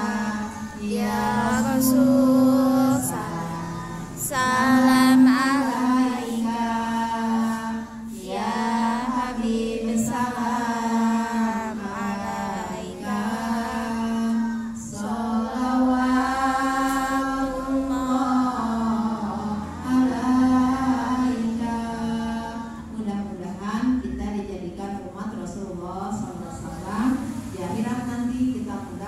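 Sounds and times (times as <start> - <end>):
steady low held tone: 0.0 - 25.2
woman singing a chant: 0.0 - 29.0.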